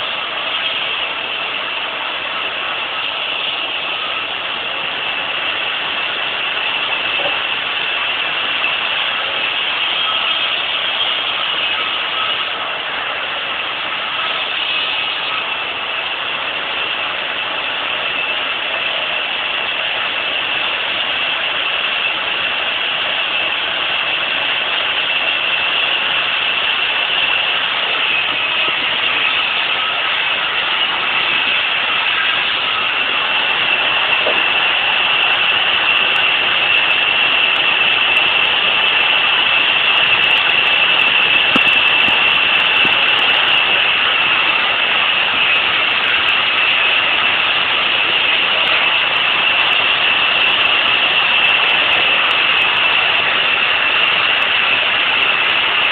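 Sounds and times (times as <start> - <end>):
band saw whining: 0.0 - 55.5.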